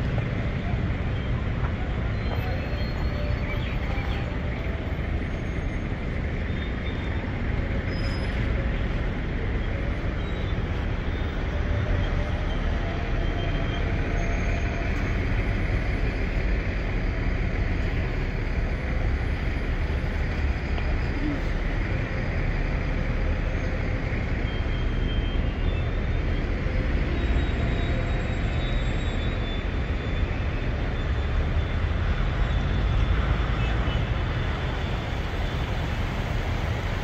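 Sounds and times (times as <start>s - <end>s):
street traffic noise: 0.0s - 37.0s.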